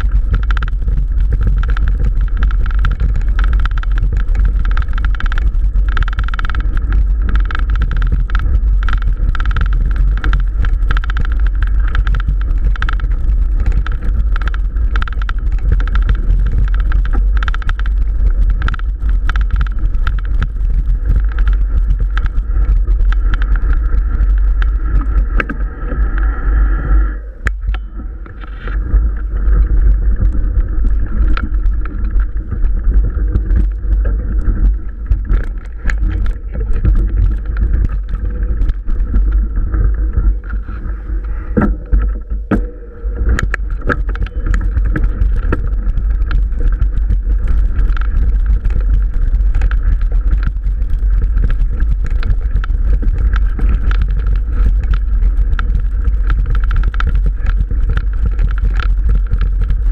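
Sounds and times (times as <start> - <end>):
bike knocks and rattles: 0.0 - 26.1, 27.4 - 59.9
wind rumbling on microphone: 0.0 - 59.9.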